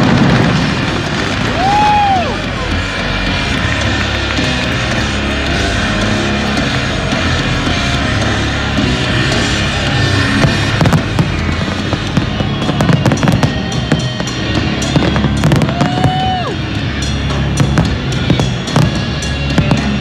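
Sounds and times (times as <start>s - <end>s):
fireworks crackling and popping: 0.0s - 20.0s
loud entrance music over speakers: 0.0s - 20.0s.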